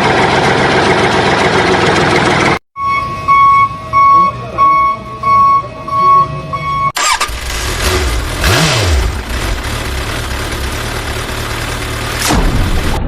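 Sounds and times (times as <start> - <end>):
vehicle engine rumbling: 0.0 - 4.7, 6.3 - 13.0.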